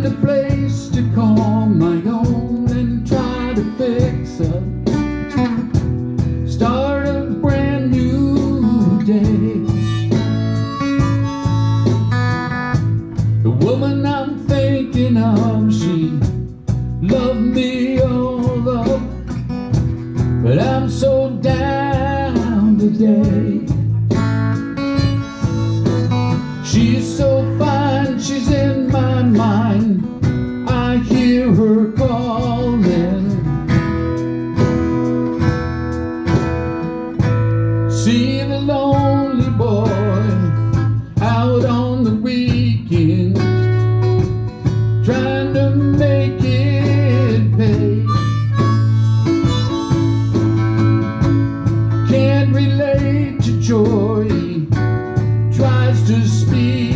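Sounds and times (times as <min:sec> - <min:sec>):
man singing: 0:00.0 - 0:05.7, 0:06.3 - 0:12.1, 0:13.2 - 0:19.8, 0:20.4 - 0:24.2, 0:25.0 - 0:34.0, 0:37.8 - 0:44.1, 0:45.0 - 0:50.4, 0:51.9 - 0:56.9
electric and acoustic guitars: 0:00.0 - 0:56.9
steady low bass notes: 0:00.0 - 0:56.9.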